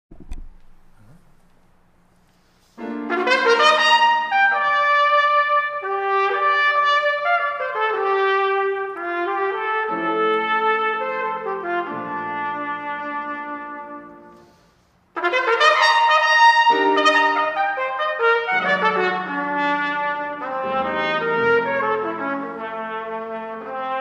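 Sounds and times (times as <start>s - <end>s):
solo trumpet: 2.8s - 24.0s.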